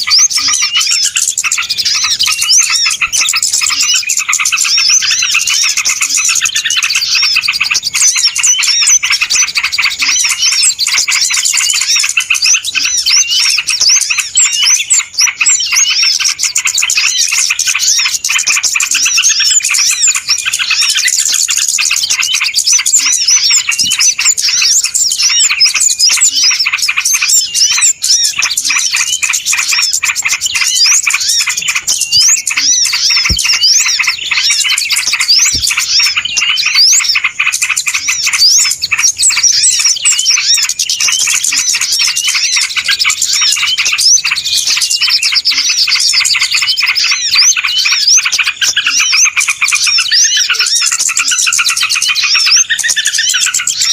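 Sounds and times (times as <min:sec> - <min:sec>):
chorus of small birds chirping: 0:00.0 - 0:53.9.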